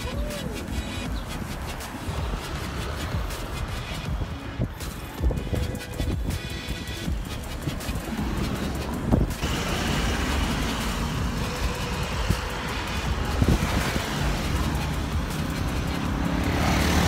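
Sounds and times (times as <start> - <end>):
road traffic rumble: 0.0 - 17.0
vehicle engine: 0.0 - 17.0.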